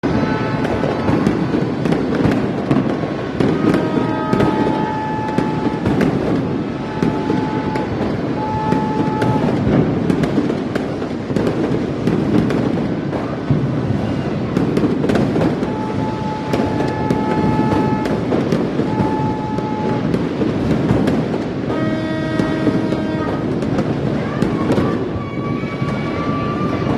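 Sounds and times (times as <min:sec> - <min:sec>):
fireworks crackling: 0:00.0 - 0:26.9.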